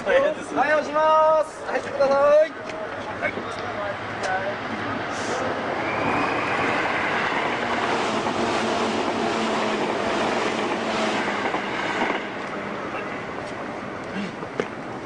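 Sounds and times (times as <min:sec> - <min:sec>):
train rushing noise: 0:01.0 - 0:15.0.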